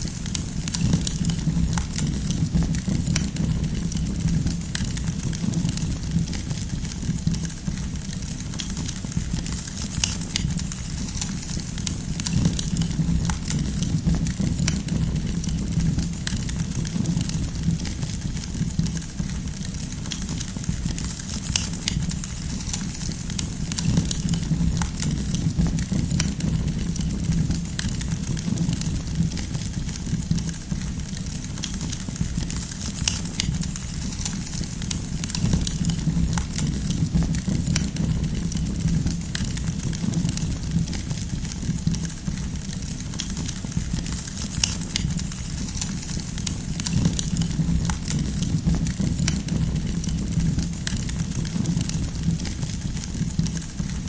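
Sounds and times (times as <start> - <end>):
campfire popping and snapping: 0.0 - 54.0
fire rumbling: 0.0 - 54.0.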